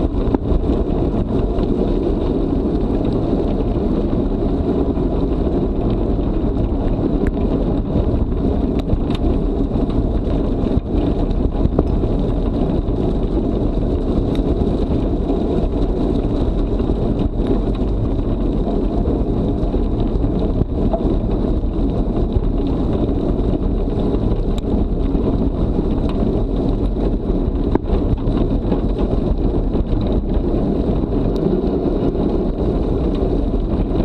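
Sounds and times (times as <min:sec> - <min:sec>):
small rattles and ticks: 0:00.0 - 0:34.0
wheels rolling over dirt track: 0:00.0 - 0:34.0
wind buffeting microphone: 0:00.0 - 0:34.0.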